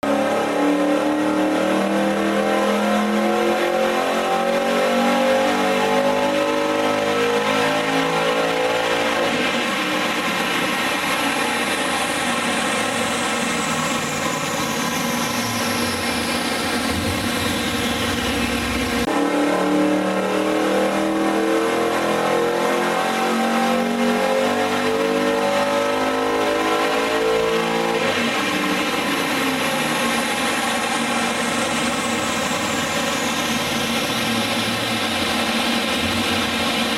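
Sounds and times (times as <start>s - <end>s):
car engine revving on a dynamometer: 0.0s - 36.9s.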